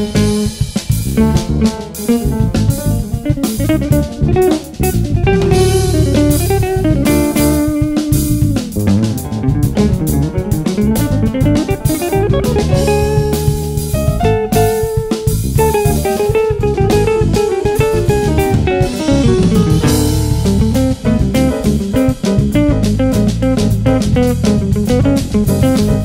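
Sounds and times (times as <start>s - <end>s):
bass guitar: 0.0s - 26.0s
drum kit groove: 0.0s - 26.0s
jazz guitar lines: 0.0s - 26.0s.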